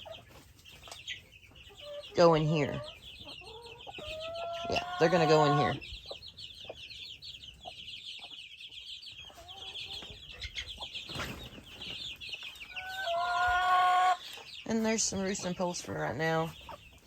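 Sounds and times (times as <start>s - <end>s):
chicks peeping: 0.0s - 17.0s
hens clucking: 0.0s - 17.0s.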